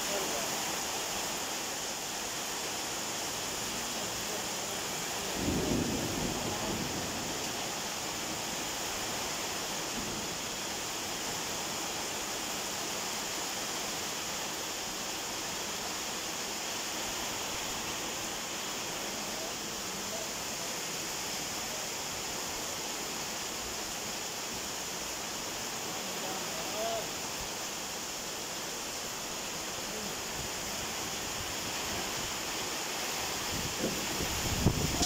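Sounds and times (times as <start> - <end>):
heavy rain on leaves: 0.0 - 35.0.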